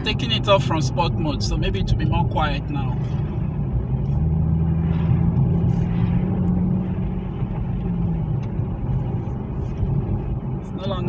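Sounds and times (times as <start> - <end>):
car engine drone from cabin: 0.0 - 11.0
road and tyre noise: 0.0 - 11.0.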